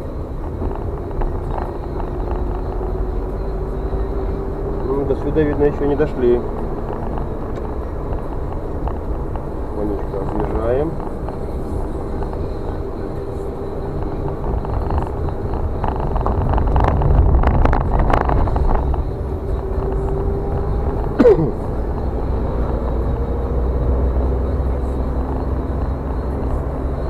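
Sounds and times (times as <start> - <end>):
tyres and engine rumble: 0.0 - 27.0.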